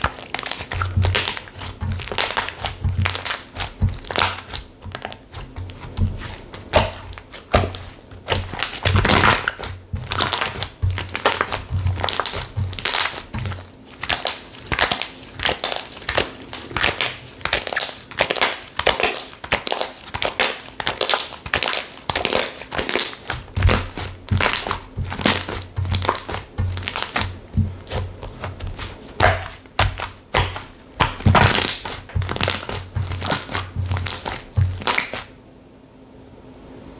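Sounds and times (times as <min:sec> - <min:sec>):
slime squeezed by hand crackling: 0:00.0 - 0:35.3.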